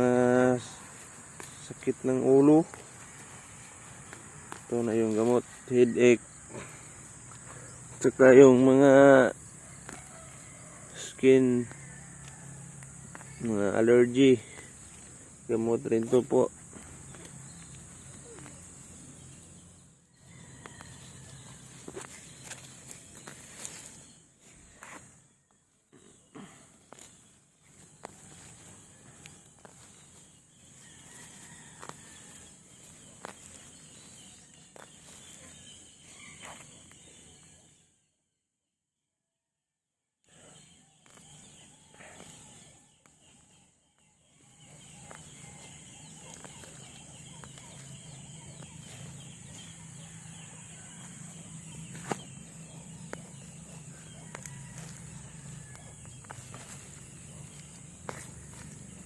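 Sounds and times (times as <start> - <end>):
high-pitched insect chorus: 0.0 - 37.9, 40.3 - 59.0.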